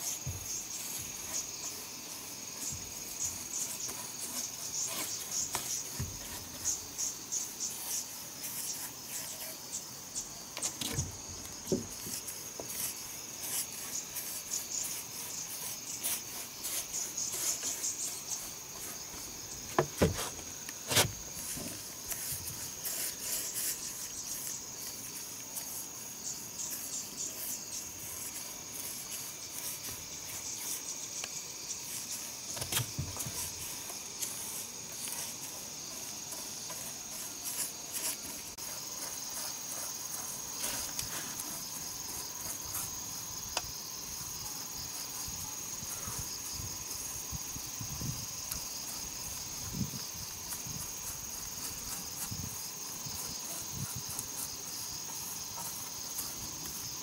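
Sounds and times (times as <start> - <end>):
brush rubbing on wooden boards: 0.0 - 57.0
insects chirping: 0.0 - 57.0.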